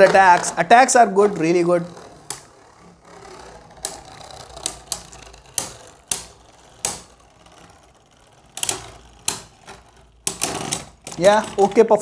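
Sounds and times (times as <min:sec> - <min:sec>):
spinning tops whirring: 0:00.0 - 0:12.0.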